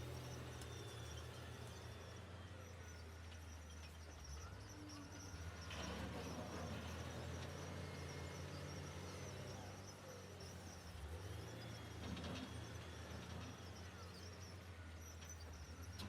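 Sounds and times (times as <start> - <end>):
heavy machinery diesel engines: 0.0 - 16.0.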